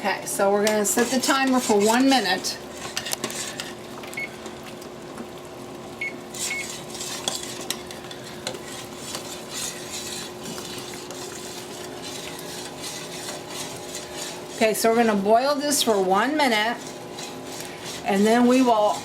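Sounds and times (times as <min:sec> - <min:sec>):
spoon stirring and scraping a pot: 0:00.6 - 0:04.6, 0:06.3 - 0:19.0
bubbling sizzle: 0:02.0 - 0:19.0.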